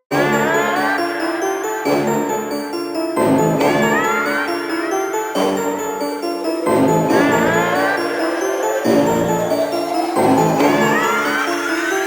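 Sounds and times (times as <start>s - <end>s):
background music melody: 0.1s - 12.0s.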